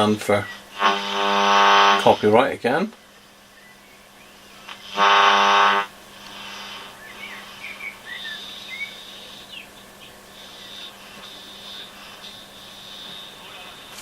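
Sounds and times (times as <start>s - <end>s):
loud radio buzz: 0.0s - 3.5s, 4.2s - 14.0s
radio interference whistles and squeals: 0.2s - 2.5s, 3.5s - 14.0s.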